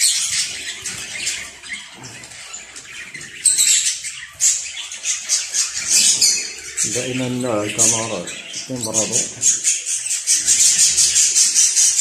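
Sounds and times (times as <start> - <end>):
canary chick chirping: 0.0 - 12.0.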